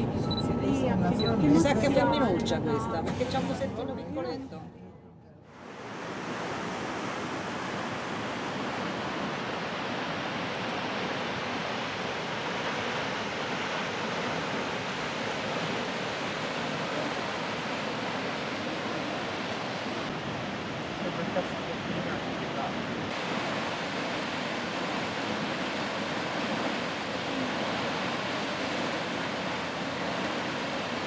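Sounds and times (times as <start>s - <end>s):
waterfall rushing: 5.5s - 31.0s.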